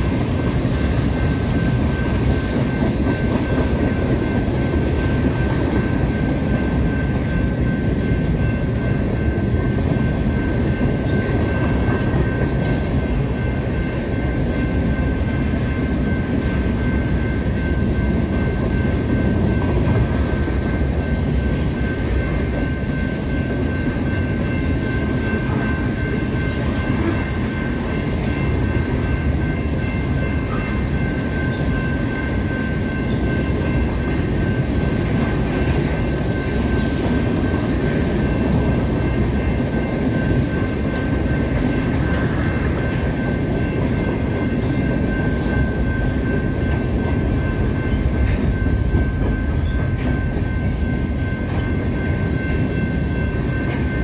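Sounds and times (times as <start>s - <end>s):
steel wheels clattering on rail: 0.0s - 54.0s.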